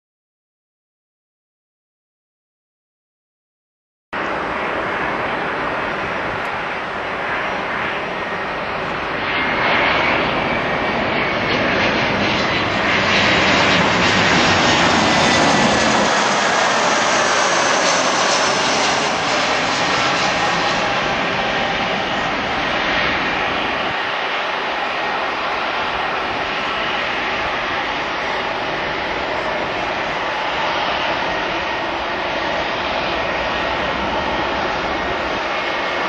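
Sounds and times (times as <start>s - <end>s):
jet engines passing: 4.2s - 36.0s.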